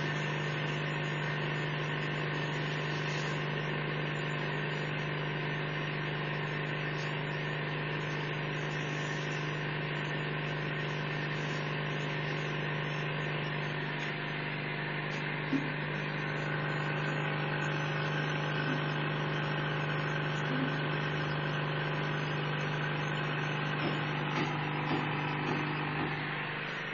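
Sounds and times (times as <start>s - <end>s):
machine hum with hiss: 0.0s - 26.9s.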